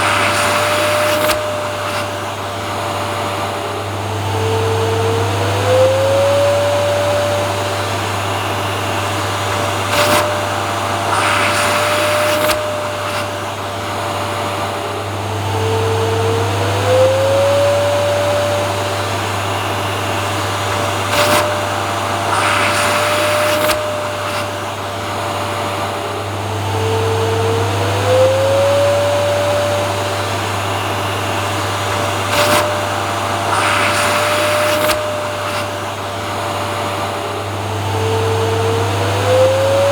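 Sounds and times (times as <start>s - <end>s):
rising motor whine: 0.0s - 39.9s
vacuum cleaner running: 0.0s - 39.9s.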